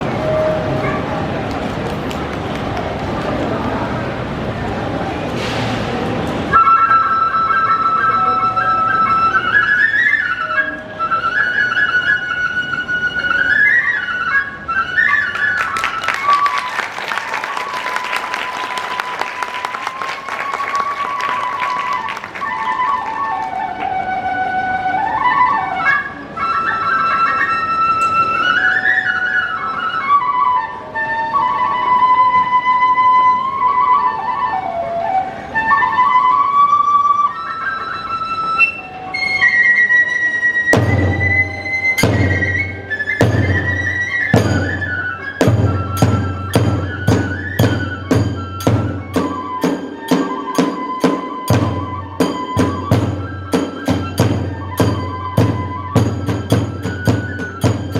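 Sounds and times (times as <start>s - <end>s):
bamboo flute melody: 0.0s - 57.9s.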